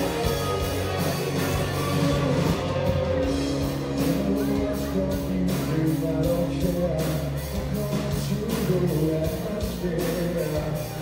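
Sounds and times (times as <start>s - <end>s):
bass guitar: 0.0s - 11.0s
electric guitar: 0.0s - 11.0s
steady drum beat: 0.0s - 11.0s
man singing lead vocal: 0.5s - 11.0s.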